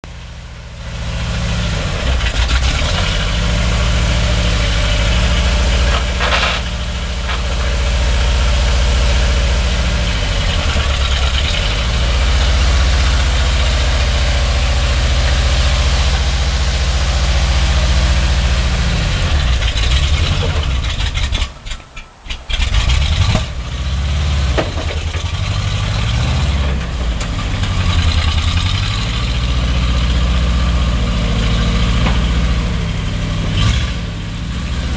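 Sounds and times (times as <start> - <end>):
truck engine idling and revving: 0.0 - 34.9.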